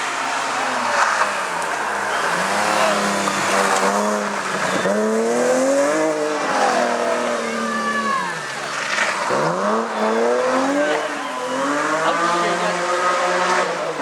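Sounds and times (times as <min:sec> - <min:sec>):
rally car engine revving: 0:00.0 - 0:14.0
tyre noise: 0:00.0 - 0:14.0.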